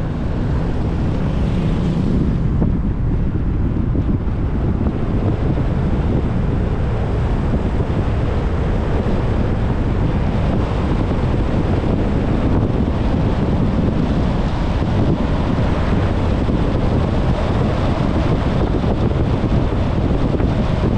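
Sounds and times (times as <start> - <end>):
wind rush on microphone: 0.0 - 20.9.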